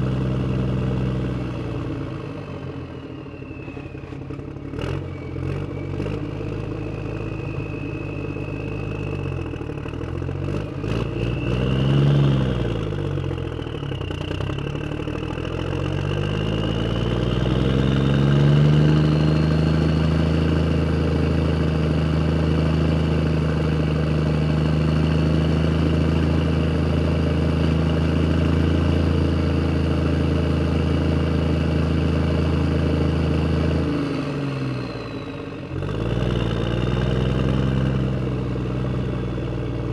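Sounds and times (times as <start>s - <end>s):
vehicle engine revving: 3.8s - 39.9s.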